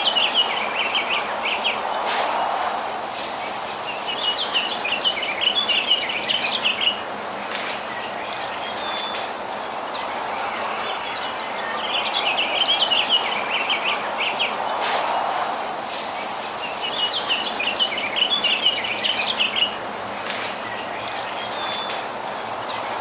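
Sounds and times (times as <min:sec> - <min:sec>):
steady background noise: 0:00.0 - 0:23.0
birds twittering: 0:03.3 - 0:15.2, 0:16.1 - 0:23.0.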